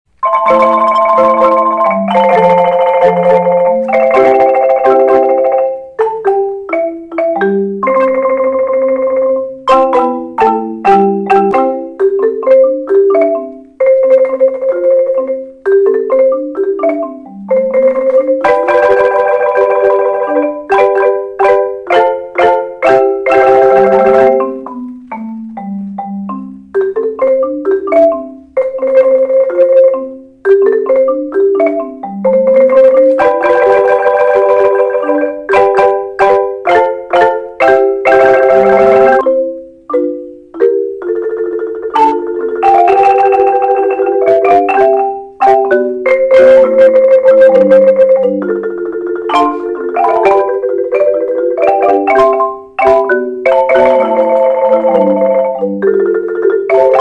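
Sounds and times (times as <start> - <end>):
marimba ensemble playing pop-rock: 0.2 - 57.0.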